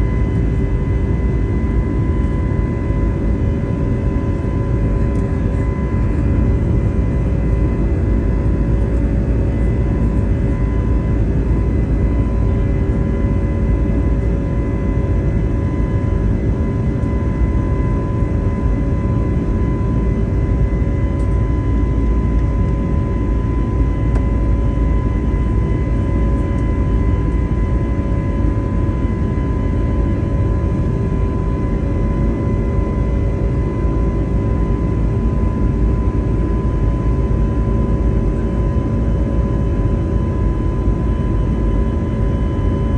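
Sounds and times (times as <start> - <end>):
jet engine and airflow rumble: 0.0 - 42.9
steady hums and whines: 0.0 - 42.9.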